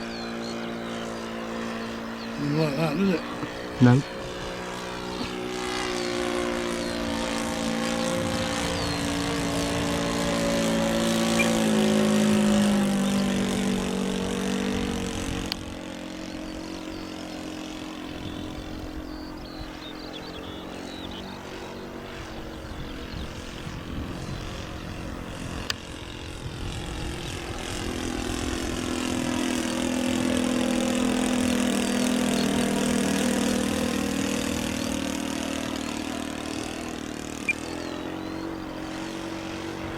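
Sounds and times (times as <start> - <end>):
model plane engine in flight: 0.0 - 39.9.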